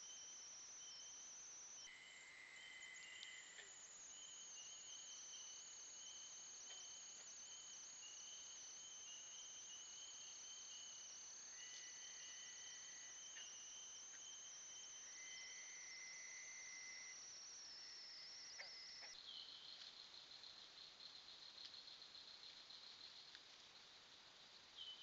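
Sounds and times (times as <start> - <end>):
faint ticks: 2.6 - 24.7.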